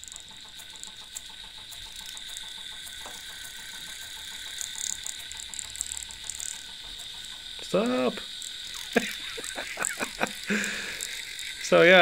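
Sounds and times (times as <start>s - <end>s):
hissing rattle: 0.0s - 12.0s
rotor rapid ticking: 0.0s - 12.0s.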